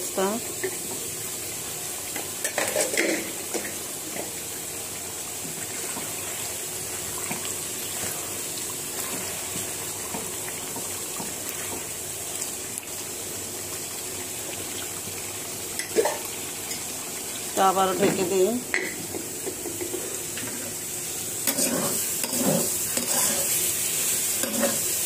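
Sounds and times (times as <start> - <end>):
curry bubbling and sizzling: 0.0 - 25.0.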